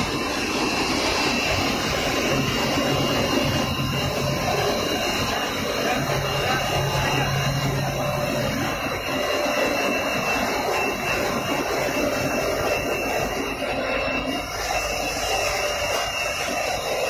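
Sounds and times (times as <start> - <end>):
faint high whine: 0.0 - 17.0
production line machine noise: 0.0 - 17.0.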